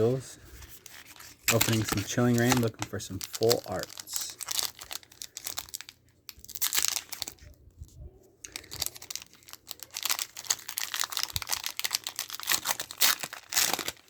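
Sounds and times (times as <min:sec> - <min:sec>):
foil wrapper crinkling and tearing: 0:00.6 - 0:07.6, 0:08.4 - 0:14.0.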